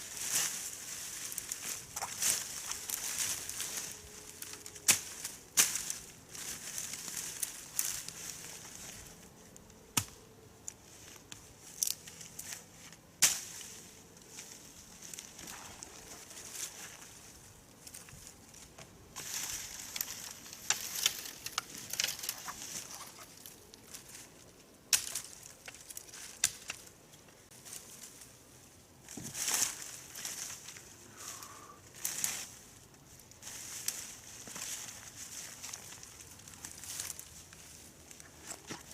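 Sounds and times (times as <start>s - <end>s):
rustling and crackling: 0.0s - 9.9s, 10.6s - 38.9s.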